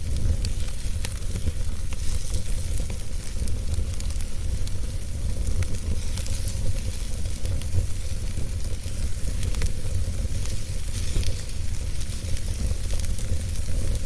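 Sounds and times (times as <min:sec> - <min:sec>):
burning wood crackling and popping: 0:00.0 - 0:14.0
fire rumbling and hissing: 0:00.0 - 0:14.0.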